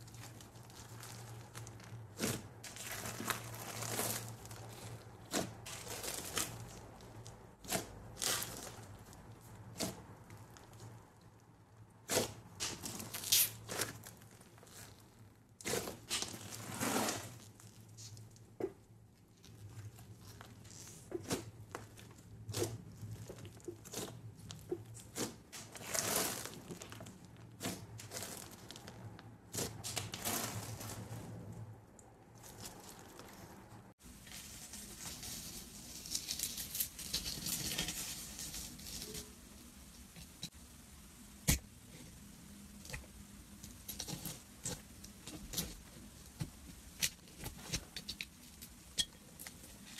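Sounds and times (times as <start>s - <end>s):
slime crackling and squishing: 0.0s - 42.0s.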